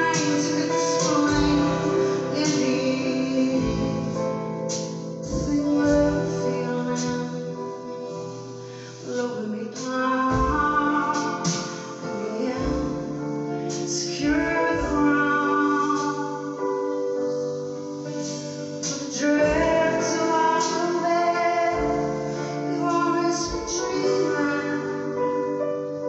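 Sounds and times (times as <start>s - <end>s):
live band playing: 0.0s - 24.8s.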